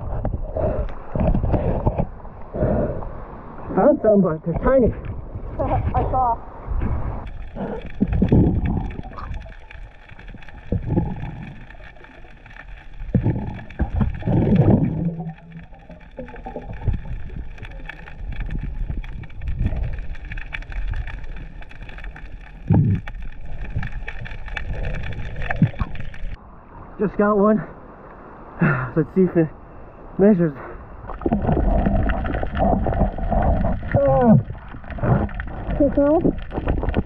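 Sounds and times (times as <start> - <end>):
underwater rushes and gurgles: 0.0 - 37.0.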